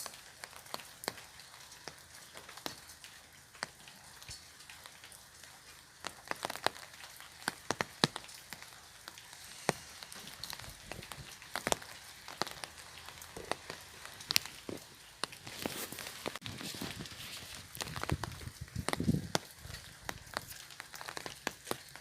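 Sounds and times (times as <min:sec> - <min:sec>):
faint hiss of rain: 0:00.0 - 0:22.0
raindrops tapping on umbrella: 0:00.0 - 0:22.0.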